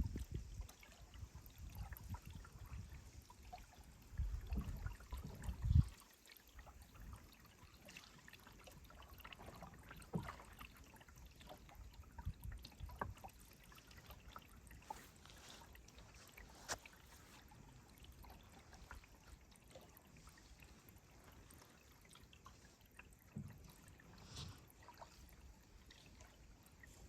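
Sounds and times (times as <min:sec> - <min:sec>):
water trickling and dripping: 0:00.0 - 0:27.0
small paddle splashes and knocks: 0:00.1 - 0:20.4, 0:21.2 - 0:26.9.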